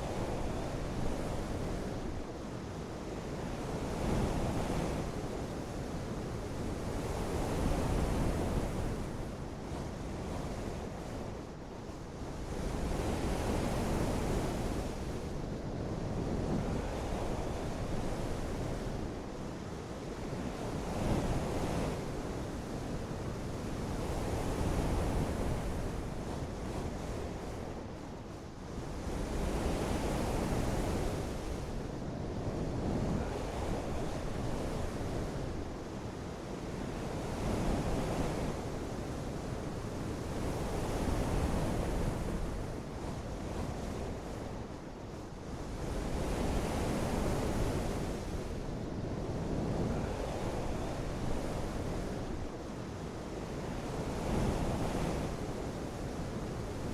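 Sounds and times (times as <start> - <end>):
wind: 0.0 - 56.9.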